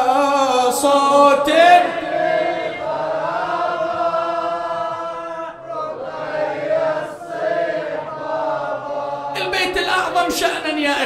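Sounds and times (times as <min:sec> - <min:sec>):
men chanting in chorus: 0:00.0 - 0:11.0.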